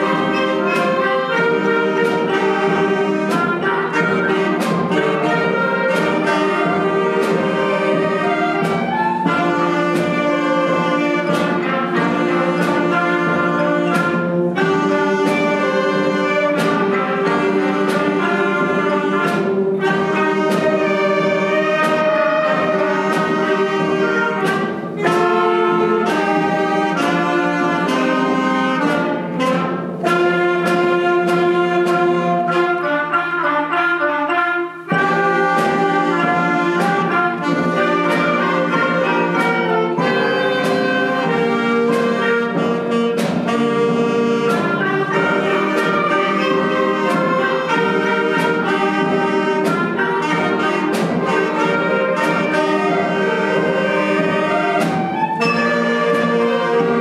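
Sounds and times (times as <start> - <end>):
concert band playing: 0.0 - 57.0
percussion strikes: 0.0 - 57.0.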